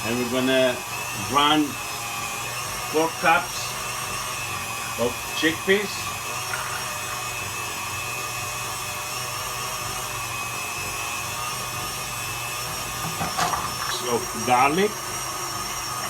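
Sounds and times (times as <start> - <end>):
electric meat grinder running: 0.0 - 16.0.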